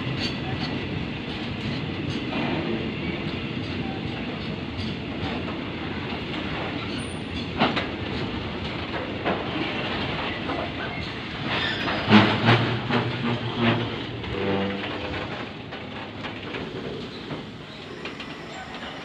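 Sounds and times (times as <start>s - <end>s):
freight train wheels rumbling: 0.0s - 19.0s
loud train clanks: 0.0s - 19.0s.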